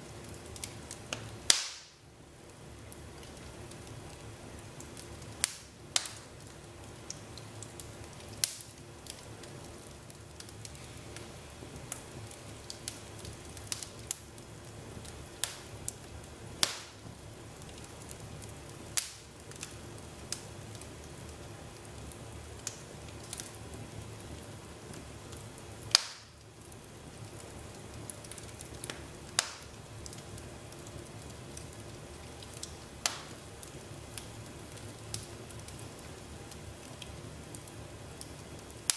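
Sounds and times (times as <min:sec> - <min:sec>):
fire crackling: 0:00.0 - 0:38.9
sharp pops of fire: 0:00.2 - 0:04.2, 0:04.8 - 0:21.3, 0:22.5 - 0:38.9.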